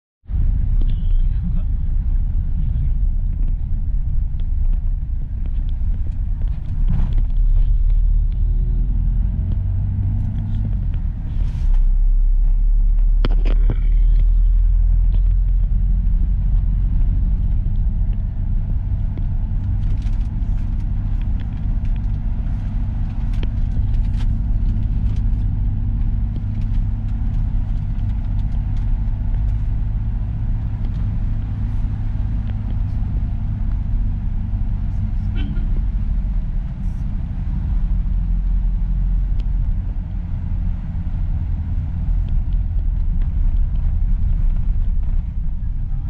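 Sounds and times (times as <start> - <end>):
vehicle interior rumble: 0.2 - 46.0.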